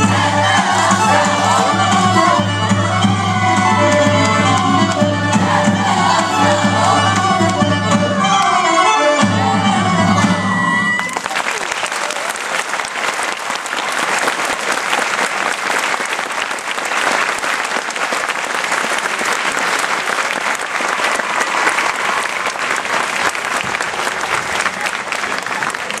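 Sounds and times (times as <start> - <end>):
audience applauding: 0.0 - 8.7, 11.0 - 26.0.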